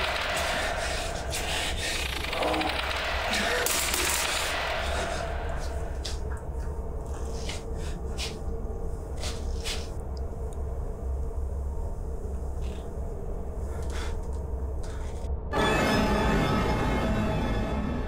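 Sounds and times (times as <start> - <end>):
faint hum: 0.0 - 15.6
low rumbling drone: 0.0 - 18.0.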